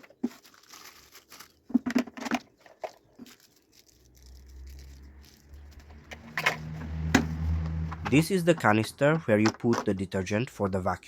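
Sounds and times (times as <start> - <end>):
plastic parts rustling and clicking: 0.0 - 10.3.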